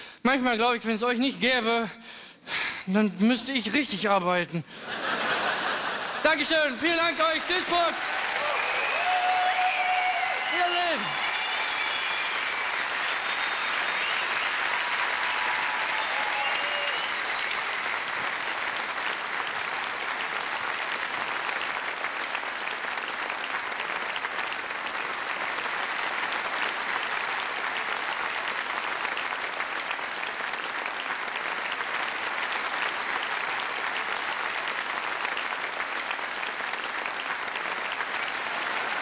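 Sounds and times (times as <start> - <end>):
audience applauding: 4.8 - 39.0.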